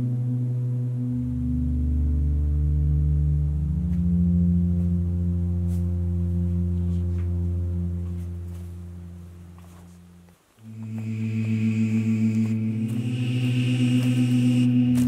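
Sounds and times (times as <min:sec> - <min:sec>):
low ambient drone: 0:00.0 - 0:15.0.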